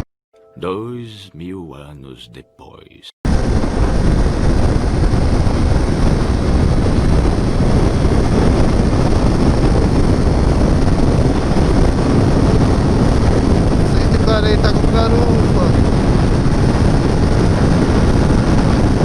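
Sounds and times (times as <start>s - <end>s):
wind buffeting microphone: 3.3s - 19.0s.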